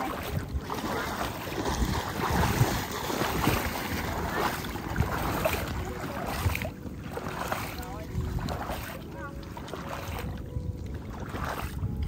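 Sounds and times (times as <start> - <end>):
wading through shallow water: 0.0 - 12.0
wind buffeting microphone: 0.0 - 12.0.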